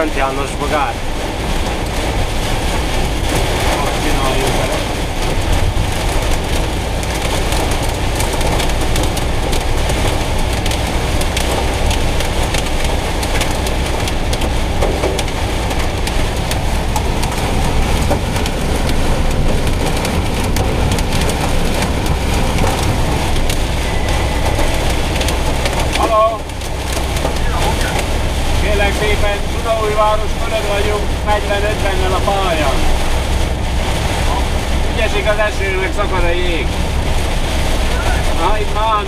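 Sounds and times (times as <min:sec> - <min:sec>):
engine and tyres rumbling: 0:00.0 - 0:39.0
rain and hail drumming on van roof: 0:00.0 - 0:39.0.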